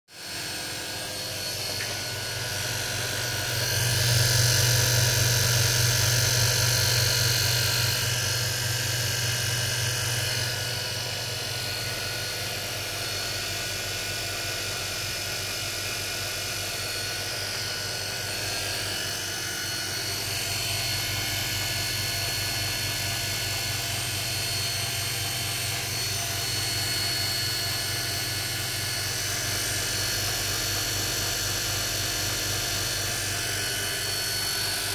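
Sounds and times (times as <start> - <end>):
dynamo whirring on test bench: 0.1 - 34.9.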